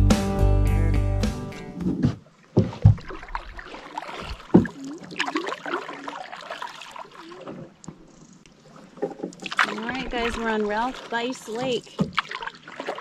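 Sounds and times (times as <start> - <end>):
paddle strokes in water: 1.7 - 13.0.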